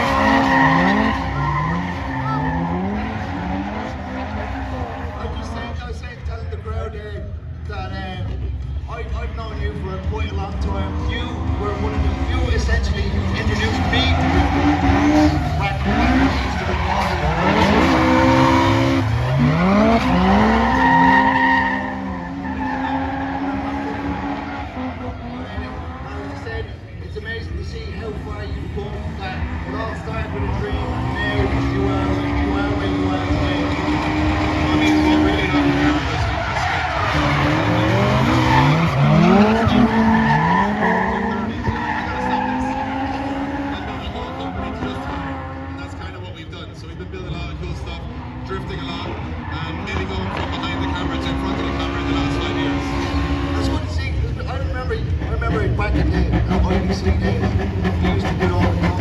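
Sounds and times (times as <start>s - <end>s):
car engine revving: 0.0s - 59.0s
tyres skidding and squealing: 0.0s - 59.0s.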